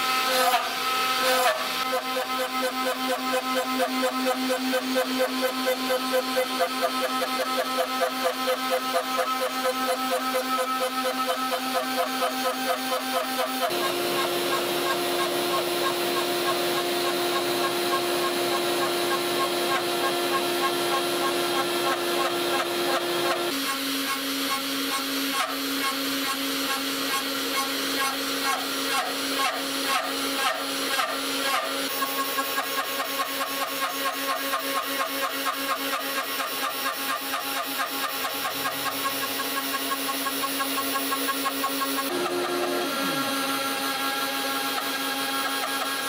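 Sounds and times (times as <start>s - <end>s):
router spindle whining: 0.0s - 46.0s.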